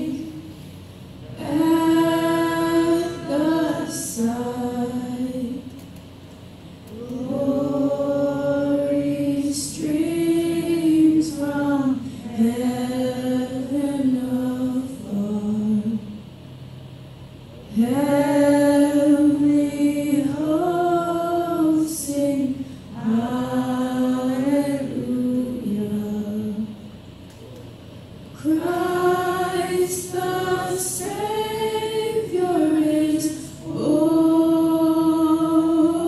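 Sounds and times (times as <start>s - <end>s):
church worship singing: 0.0s - 0.7s, 1.3s - 6.0s, 6.9s - 16.2s, 17.7s - 26.8s, 28.3s - 36.0s.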